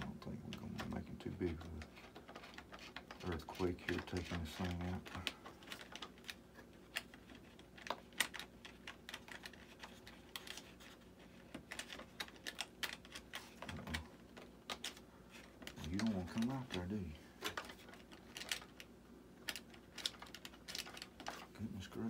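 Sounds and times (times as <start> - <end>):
small parts clicking and tapping: 0.0 - 21.5.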